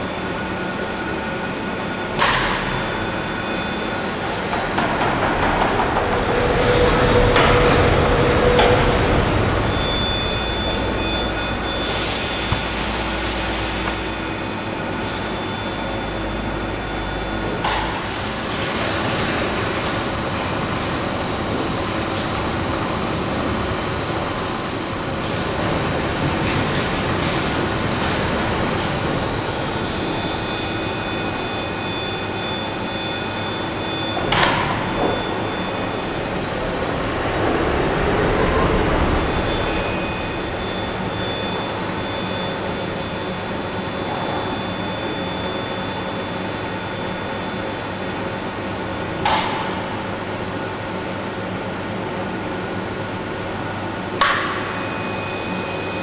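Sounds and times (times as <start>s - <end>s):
machinery hum: 0.0s - 56.0s.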